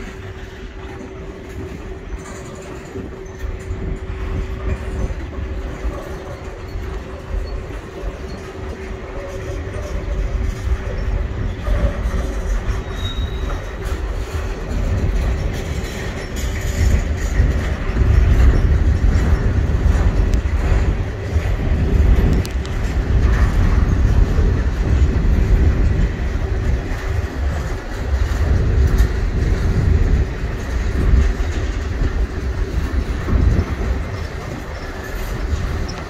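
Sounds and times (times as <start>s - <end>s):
train wheels rumbling on rail: 0.0s - 36.0s
wheels clacking on rail: 0.0s - 36.0s.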